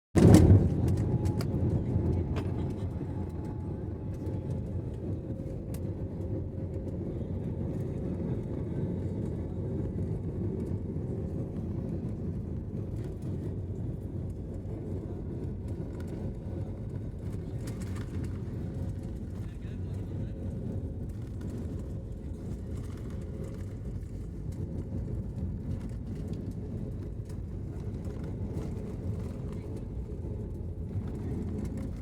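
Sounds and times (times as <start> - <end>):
aeroplane taking off: 0.2 - 32.0.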